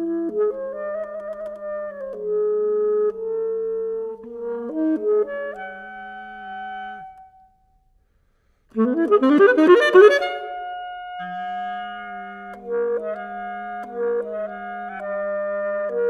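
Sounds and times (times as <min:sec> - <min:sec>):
alto saxophone playing: 0:00.0 - 0:07.6, 0:08.7 - 0:16.0.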